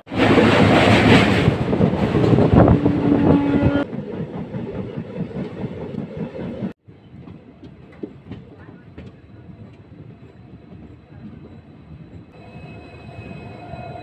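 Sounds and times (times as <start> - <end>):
rush of wind and rail noise: 0.0 - 14.0.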